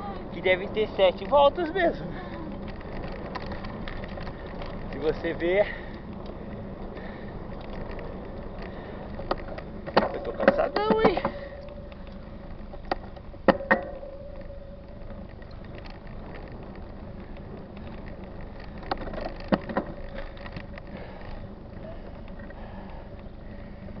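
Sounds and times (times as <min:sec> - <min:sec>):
bike tyres humming on asphalt: 0:00.0 - 0:24.0
bike knocks and rattles: 0:00.5 - 0:24.0.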